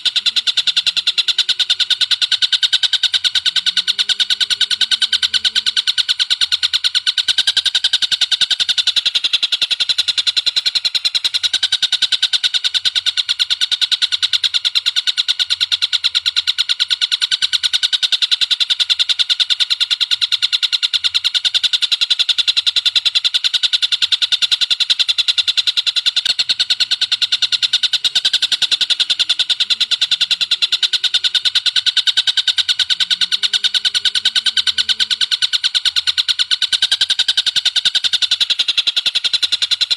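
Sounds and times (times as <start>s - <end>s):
high-pitched bird calls chattering: 0.0s - 39.9s.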